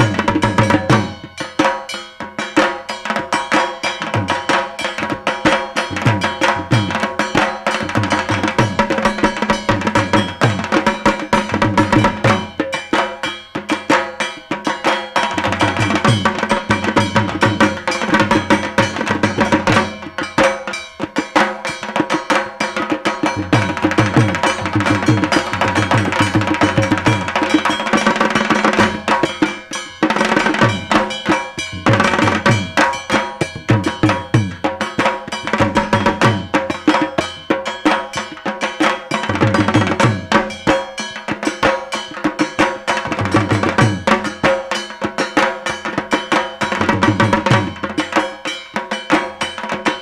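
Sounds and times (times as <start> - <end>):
barrel drum beaten with sticks: 0.0 - 48.4.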